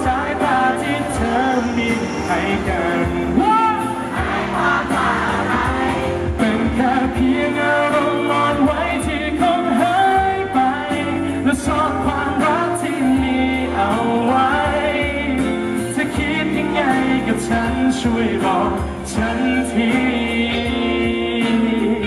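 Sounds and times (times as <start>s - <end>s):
man singing into a microphone: 0.0s - 4.2s, 4.9s - 22.0s
amplified backing music: 0.0s - 22.0s.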